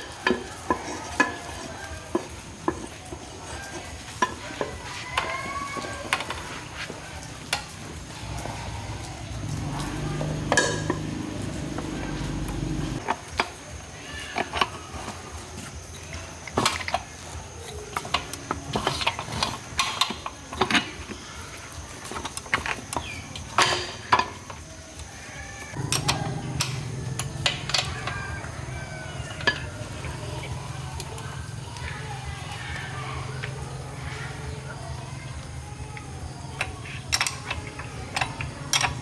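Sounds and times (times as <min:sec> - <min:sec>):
metal utensils clinking on pan: 0:00.0 - 0:15.2, 0:17.7 - 0:24.6, 0:25.7 - 0:34.2, 0:36.5 - 0:39.0
low hum of frying: 0:00.0 - 0:39.0.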